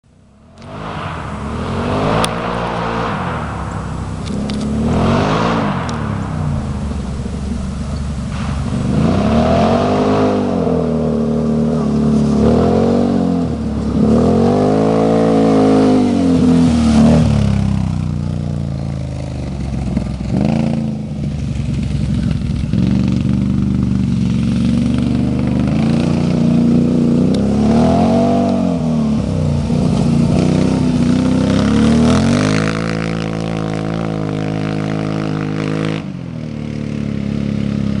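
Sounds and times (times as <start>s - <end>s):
atv engine revving: 0.6s - 38.0s.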